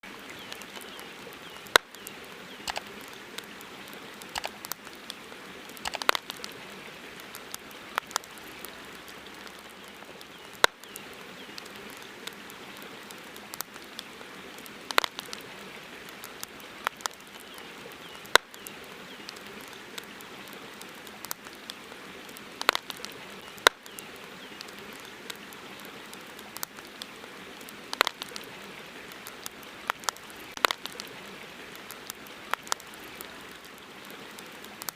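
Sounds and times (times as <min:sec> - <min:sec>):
campfire crackling: 0:00.0 - 0:34.9
steady hiss: 0:00.0 - 0:34.9.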